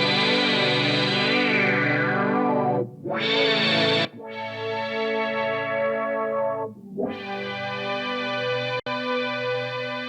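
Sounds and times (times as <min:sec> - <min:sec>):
sustained synth guitar chords: 0:00.0 - 0:10.0.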